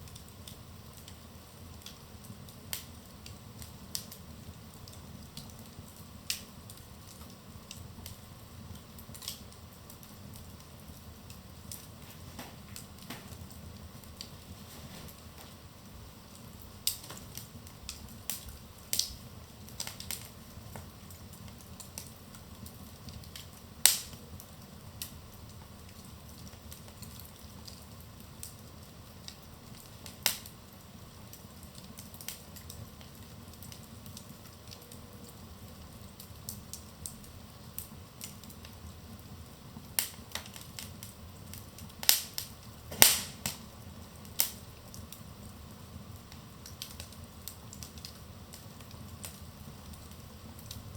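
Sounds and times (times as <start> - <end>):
low rumble of flames: 0.0 - 50.9
wood fire crackling and popping: 0.0 - 50.9.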